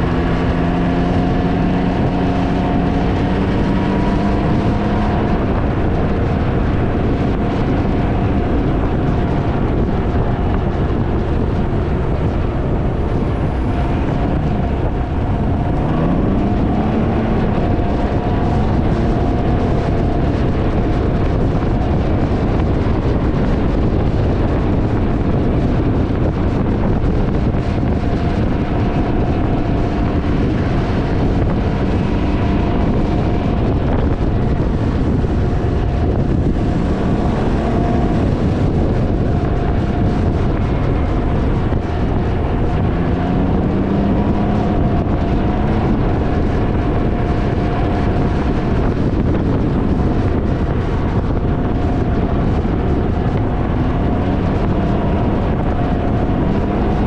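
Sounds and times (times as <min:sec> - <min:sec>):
vehicle engine running: 0:00.0 - 0:57.0
wind buffeting microphone: 0:00.0 - 0:57.0.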